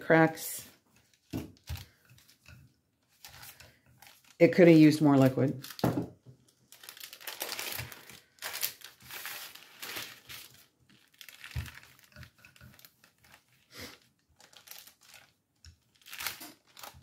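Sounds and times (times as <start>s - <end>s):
parchment paper crinkling: 0.2s - 17.0s.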